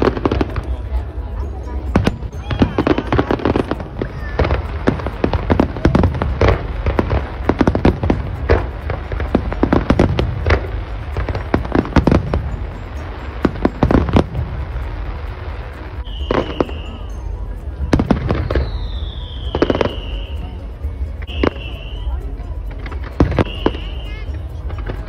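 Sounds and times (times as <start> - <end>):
firework bangs: 0.0 - 1.3, 1.9 - 17.2, 17.8 - 20.6, 21.2 - 25.0.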